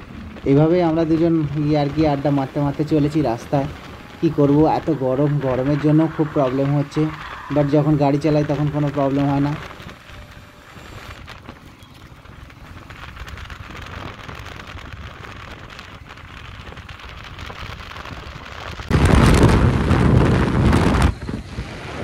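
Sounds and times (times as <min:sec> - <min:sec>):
motorcycle road noise: 0:00.0 - 0:22.0
wind rushing over microphone: 0:00.0 - 0:22.0.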